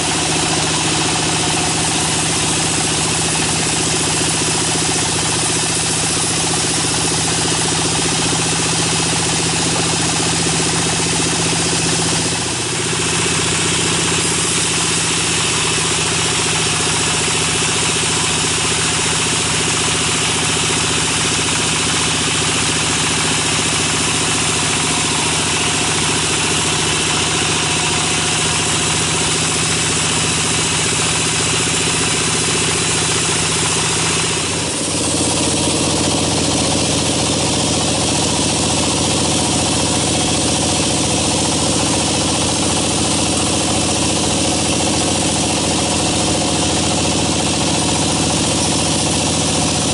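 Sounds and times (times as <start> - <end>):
band saw cutting through log: 0.0 - 49.9.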